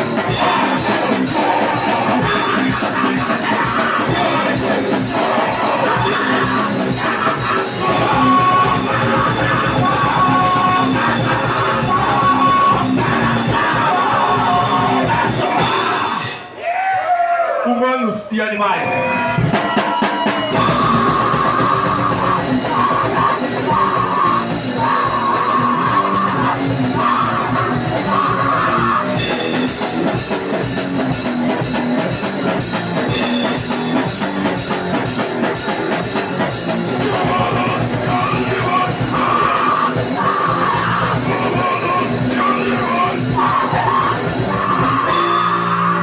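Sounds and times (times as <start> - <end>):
loud distorted guitar: 0.0 - 16.6, 19.0 - 46.0
person yelling vocals: 0.0 - 18.7, 20.6 - 29.8, 36.4 - 46.0
drums: 0.0 - 46.0.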